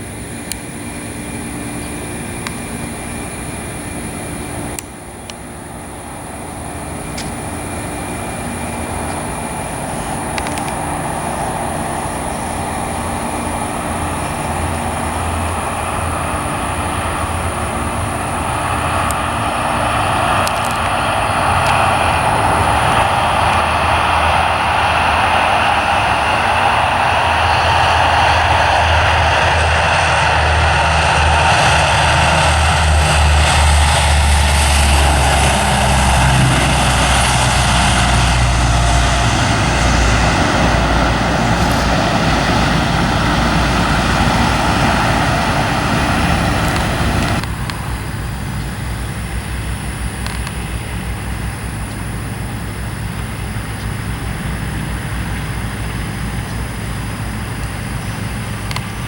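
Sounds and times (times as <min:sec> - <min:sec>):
military aircraft engine rumble: 0:00.0 - 0:59.0.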